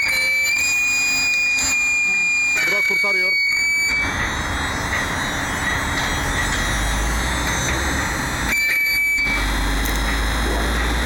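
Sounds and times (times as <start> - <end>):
hydraulic unit humming: 0.0 - 11.0.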